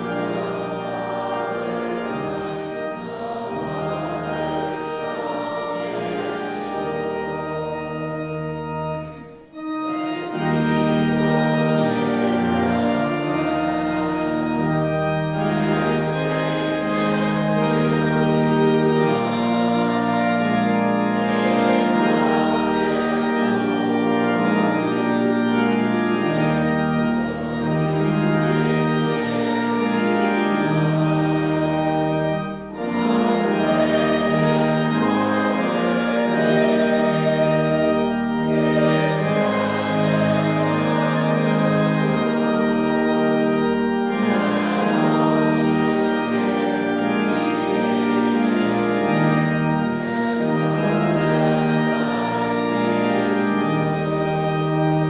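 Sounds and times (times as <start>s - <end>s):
organ playing a hymn: 0.0s - 55.0s.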